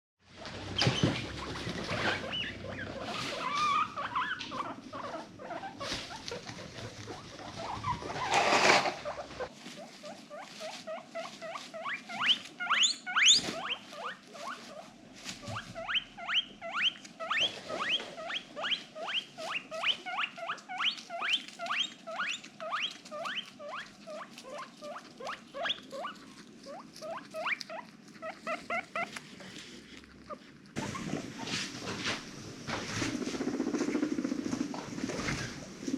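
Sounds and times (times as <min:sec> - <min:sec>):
guinea pig wheeking: 0:00.3 - 0:35.9
rustling and scuffling: 0:00.4 - 0:35.9.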